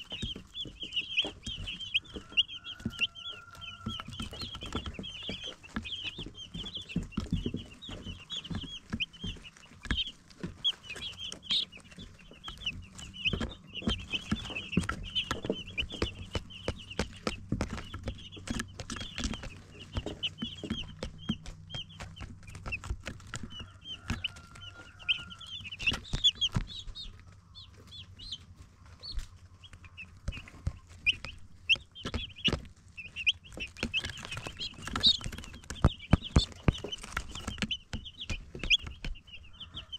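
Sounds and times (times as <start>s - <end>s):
sharp taps and clicks: 0.0s - 28.4s, 29.0s - 39.4s
baby chicks peeping: 0.0s - 39.9s.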